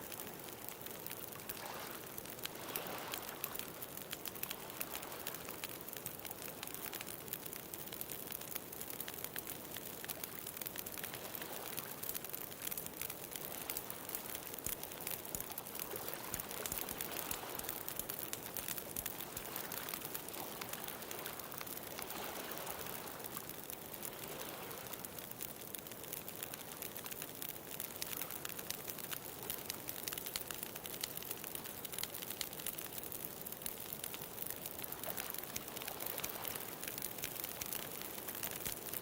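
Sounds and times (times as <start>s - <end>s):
bonfire crackling and popping: 0.0s - 39.0s.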